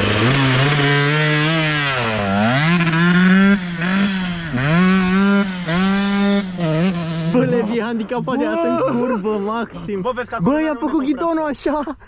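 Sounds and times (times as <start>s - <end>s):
dirt bike revving: 0.0s - 10.6s.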